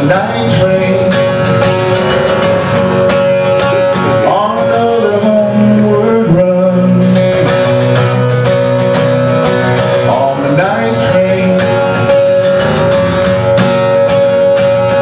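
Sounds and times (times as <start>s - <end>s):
country music guitar strumming: 0.0s - 15.0s.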